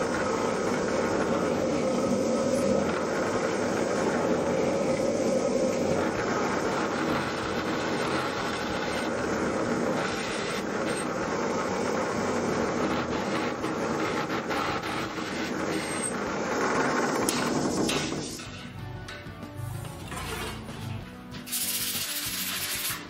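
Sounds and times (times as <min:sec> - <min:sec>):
drill press running: 0:00.0 - 0:22.9
dust vacuum running: 0:00.0 - 0:23.0.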